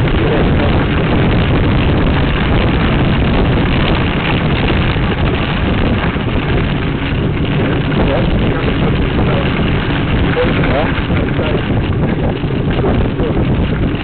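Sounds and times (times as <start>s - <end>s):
tyres rolling on road: 0.0s - 14.0s
wind buffeting microphone: 0.0s - 14.0s.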